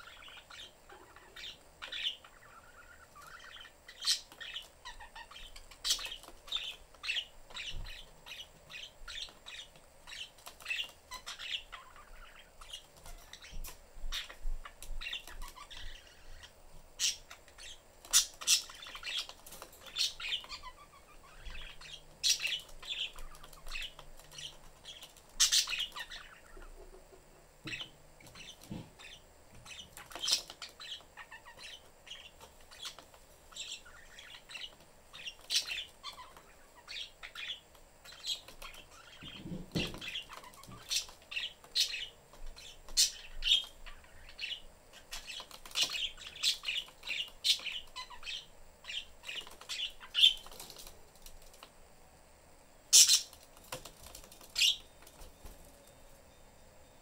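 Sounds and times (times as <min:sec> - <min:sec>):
budgerigars chirping: 0:00.0 - 0:27.0, 0:27.6 - 0:50.9, 0:52.9 - 0:53.4, 0:54.0 - 0:55.2.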